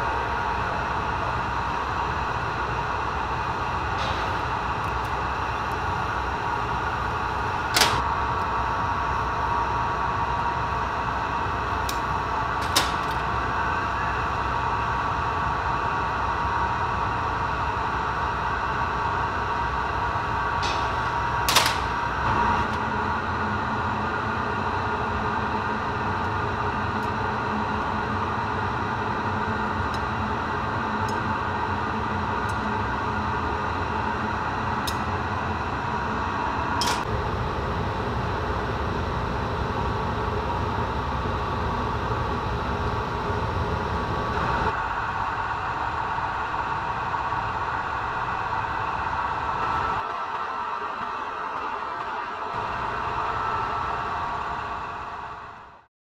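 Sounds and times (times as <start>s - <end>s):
furnace burner and blower drone: 0.0s - 55.9s.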